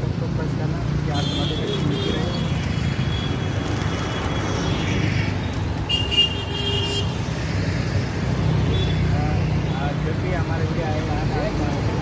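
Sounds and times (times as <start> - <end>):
motorbike and car engines passing: 0.0 - 12.0
street traffic: 0.0 - 12.0.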